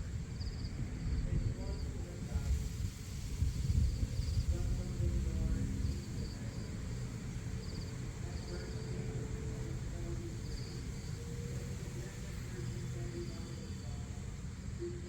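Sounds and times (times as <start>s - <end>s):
insects chirping in trills: 0.0s - 2.1s, 3.6s - 15.0s
low outdoor rumble: 0.0s - 15.0s.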